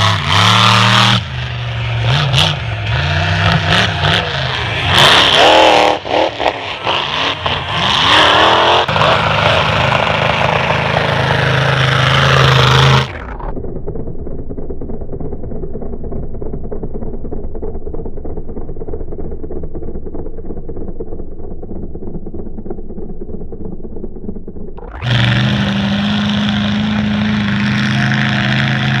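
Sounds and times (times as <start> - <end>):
truck engine idling and revving: 0.0 - 29.0.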